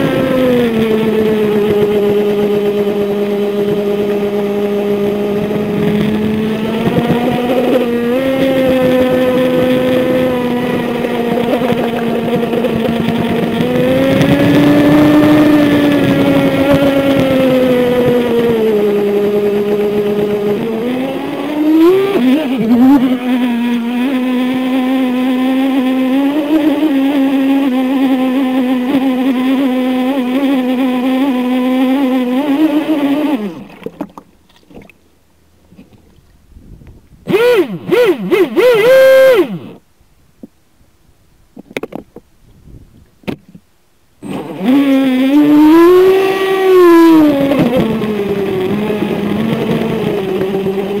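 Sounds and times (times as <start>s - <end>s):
rc boat motor whining: 0.0s - 34.8s, 37.2s - 39.9s, 44.2s - 51.0s.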